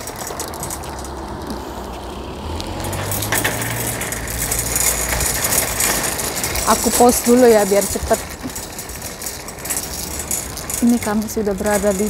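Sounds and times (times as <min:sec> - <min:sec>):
wire basket rattling: 0:00.0 - 0:01.5, 0:02.2 - 0:12.0
trolley wheels rumbling: 0:00.0 - 0:12.0.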